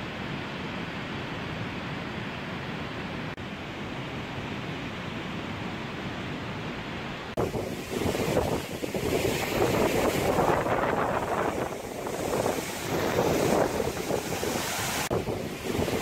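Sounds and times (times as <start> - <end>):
rushing white water: 0.0 - 16.0.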